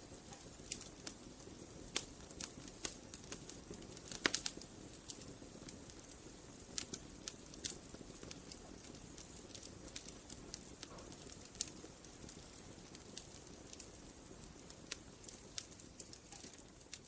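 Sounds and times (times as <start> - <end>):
low rush of burning fire: 0.0 - 17.0
wood fire crackling and popping: 0.0 - 17.0.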